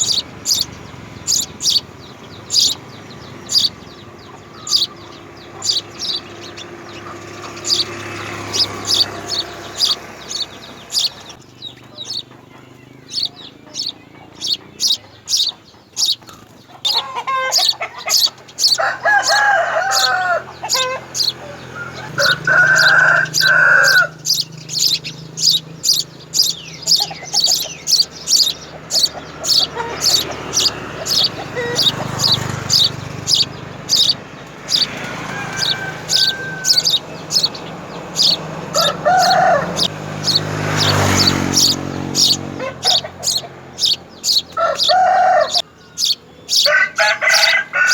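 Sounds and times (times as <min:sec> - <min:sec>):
small birds chirping: 0:00.0 - 0:47.9
rooster crowing: 0:02.5 - 0:11.4, 0:16.8 - 0:25.6, 0:26.3 - 0:47.9.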